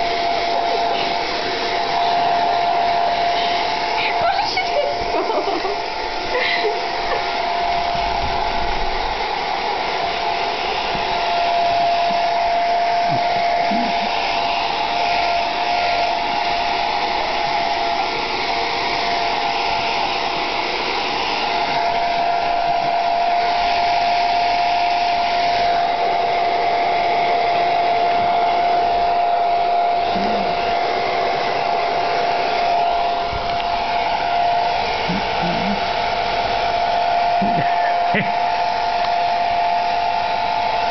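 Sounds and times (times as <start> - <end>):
hairdryer blowing air: 0.0 - 40.9
hairdryer motor whining: 0.0 - 40.9.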